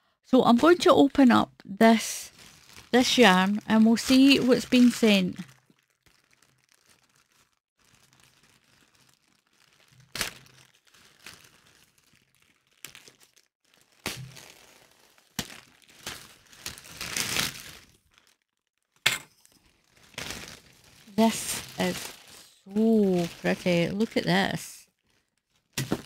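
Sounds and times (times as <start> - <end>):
plastic bag crinkling: 2.2 - 26.0.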